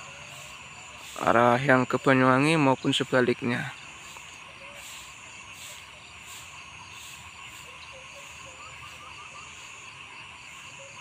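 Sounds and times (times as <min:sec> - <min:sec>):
insect chorus pulsing drone: 0:00.0 - 0:11.0
small animals chirping: 0:00.0 - 0:11.0.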